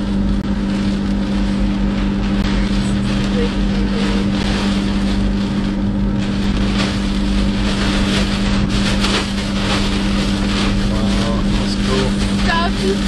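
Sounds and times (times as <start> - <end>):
low engine hum: 0.0 - 13.0
rain lashing against car: 0.4 - 13.0.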